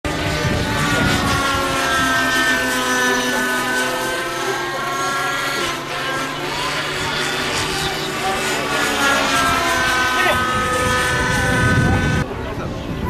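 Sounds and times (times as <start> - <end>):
model helicopter engine whine: 0.1 - 13.0.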